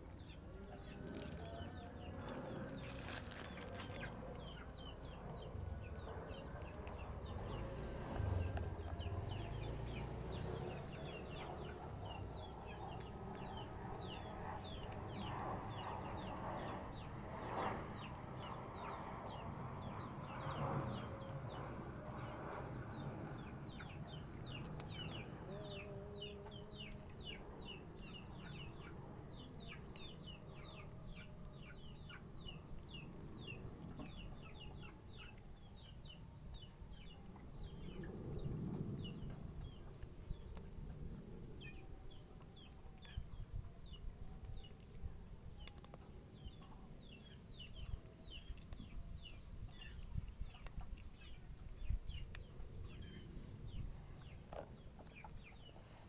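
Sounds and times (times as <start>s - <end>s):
birds chirping: 0.0s - 56.0s
low background rumble: 0.0s - 56.0s.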